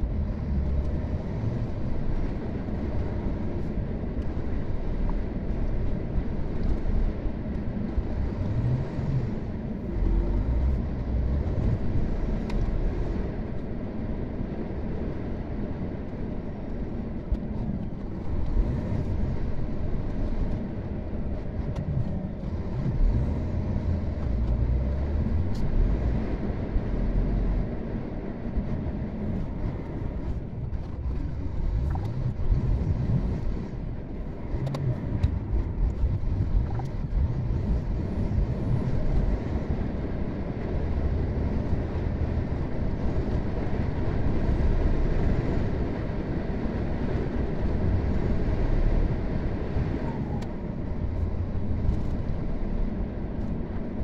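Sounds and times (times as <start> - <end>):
car road and tyre rumble: 0.0 - 54.0.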